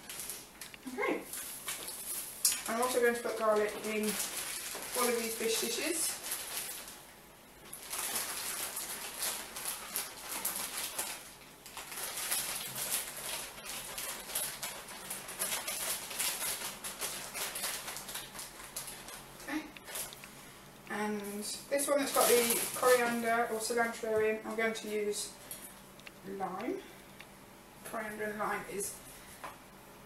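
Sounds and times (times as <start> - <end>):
plastic bags crinkling: 0.0 - 20.5, 21.3 - 26.0.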